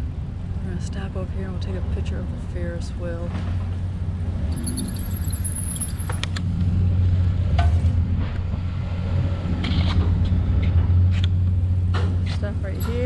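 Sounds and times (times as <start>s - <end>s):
rumble of riding on paved path: 0.0s - 13.0s.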